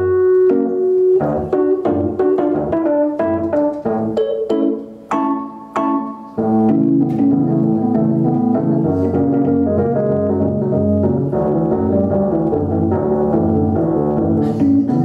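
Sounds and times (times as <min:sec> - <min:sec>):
stepping bass line: 0:00.0 - 0:04.8, 0:06.4 - 0:15.0
live band playing: 0:00.0 - 0:15.0
organ-like keyboard chords: 0:00.0 - 0:15.0.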